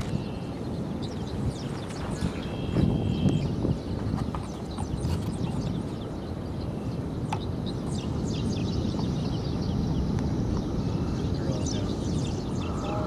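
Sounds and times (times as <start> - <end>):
storm wind rumble: 0.0 - 13.0.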